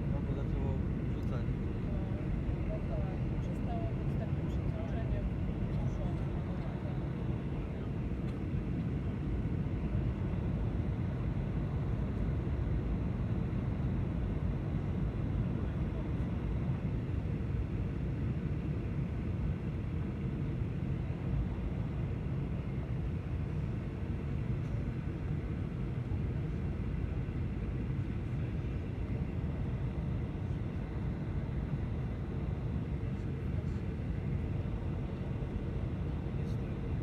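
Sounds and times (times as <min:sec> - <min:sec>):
airliner engine drone in cabin: 0:00.0 - 0:37.0.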